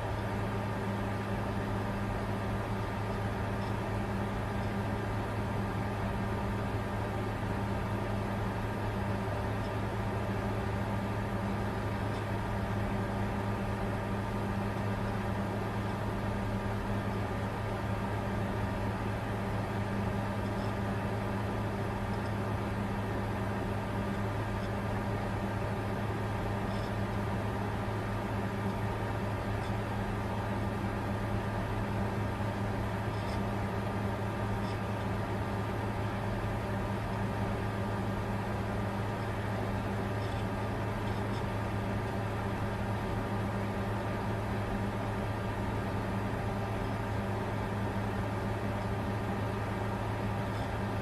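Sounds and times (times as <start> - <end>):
computer cooling fans whirring: 0.0 - 51.0
constant low hum: 0.0 - 51.0.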